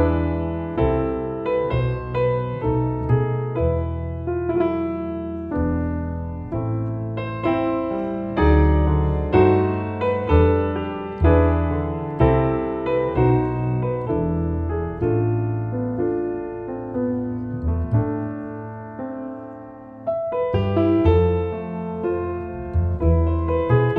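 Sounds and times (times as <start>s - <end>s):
plucked double bass: 0.0s - 19.4s, 20.2s - 23.9s
piano chords: 0.0s - 23.9s.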